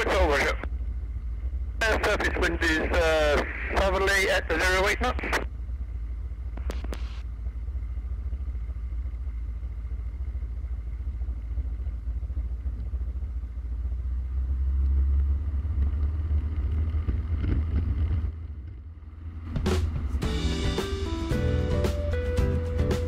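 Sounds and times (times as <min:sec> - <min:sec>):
aircraft engine and propeller: 0:00.0 - 0:23.0.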